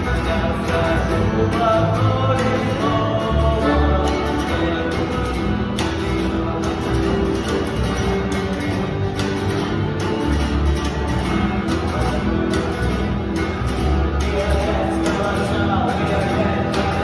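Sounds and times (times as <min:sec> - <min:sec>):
deep bass: 0:00.0 - 0:17.0
guitar playing: 0:00.0 - 0:17.0.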